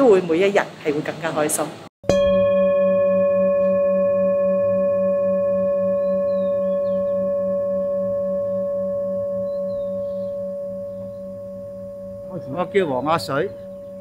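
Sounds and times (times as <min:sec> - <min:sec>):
singing bowl ringing: 0:02.0 - 0:14.0.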